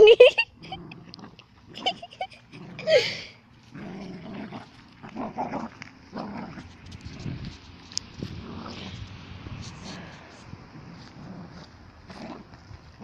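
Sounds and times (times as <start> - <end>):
dogs growling: 0.6 - 7.4, 8.2 - 9.1, 9.8 - 12.6.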